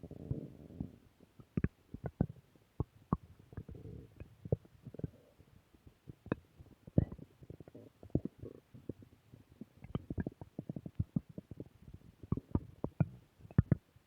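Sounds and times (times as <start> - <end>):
stomach growling: 0.0 - 13.9.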